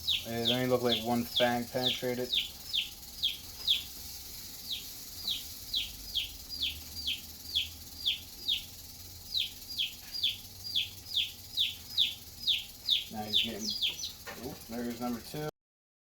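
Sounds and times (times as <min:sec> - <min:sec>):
chick peeping: 0:00.0 - 0:14.9.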